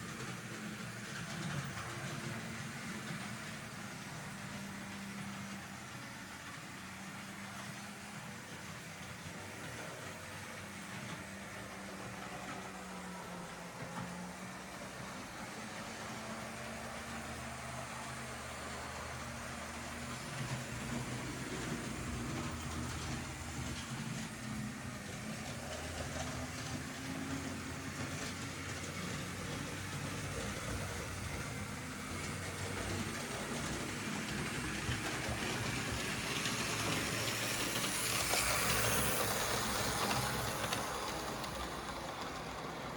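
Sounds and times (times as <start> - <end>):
model train motor hum: 0.0 - 42.9.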